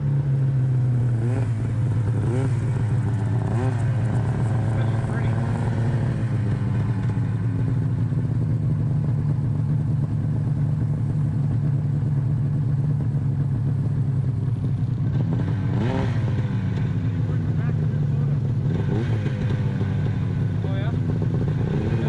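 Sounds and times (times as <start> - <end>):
snowmobile engine idling and revving: 0.0 - 22.0.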